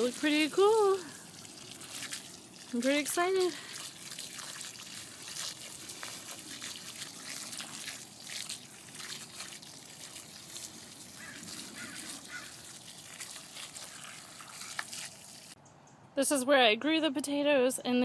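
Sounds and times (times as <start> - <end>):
garden hose water spraying: 0.0 - 15.6.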